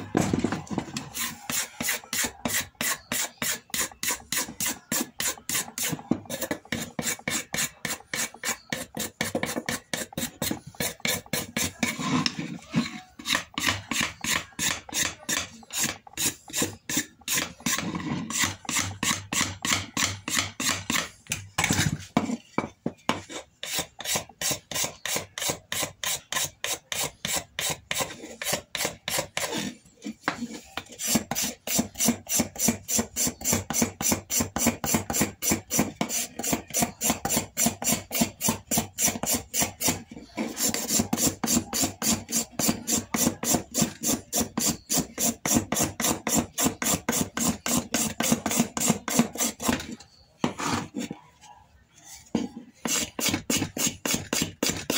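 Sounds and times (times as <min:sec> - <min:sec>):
hand scraper rasping on wood: 0:00.1 - 0:22.5, 0:23.1 - 0:51.1, 0:52.4 - 0:54.9.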